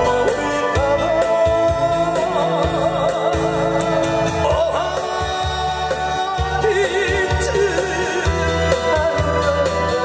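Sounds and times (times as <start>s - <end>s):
man singing with vibrato: 0.0s - 10.0s
recorded accompaniment with bass: 0.0s - 10.0s.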